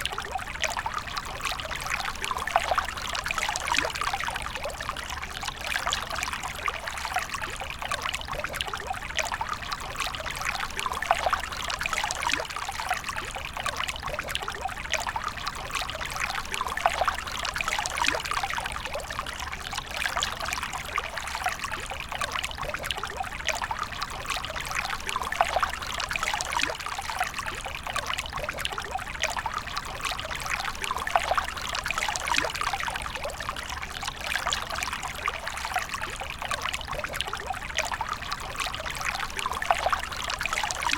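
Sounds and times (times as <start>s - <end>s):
water pouring and trickling: 0.0s - 40.9s.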